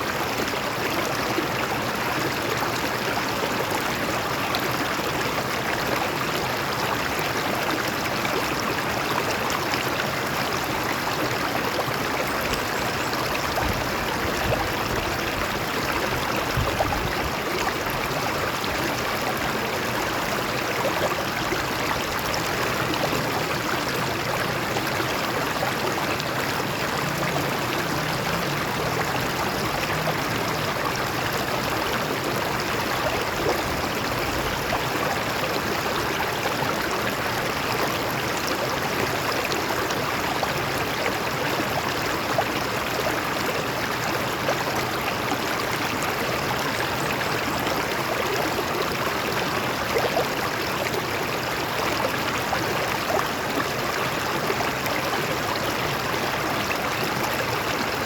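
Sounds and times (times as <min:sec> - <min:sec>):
stream water flowing over rocks: 0:00.0 - 0:58.0.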